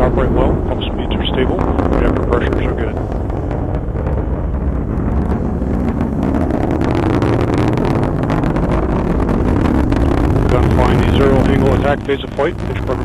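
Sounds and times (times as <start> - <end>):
rocket engine rumbling: 0.0 - 13.0.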